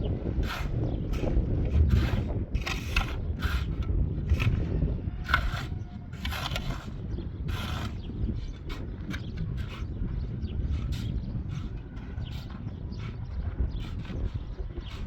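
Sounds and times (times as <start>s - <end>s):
rasping scraping strokes: 0.1s - 15.0s.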